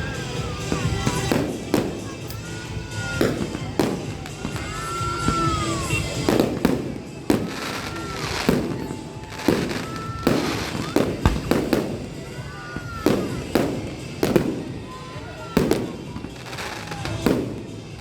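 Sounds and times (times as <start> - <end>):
fireworks bangs: 0.0 - 18.0
fireworks crackle and rumble: 0.0 - 18.0.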